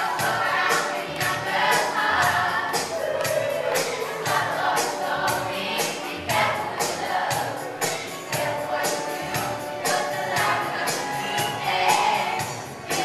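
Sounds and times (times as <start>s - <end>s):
pop song over sound system: 0.0s - 13.0s.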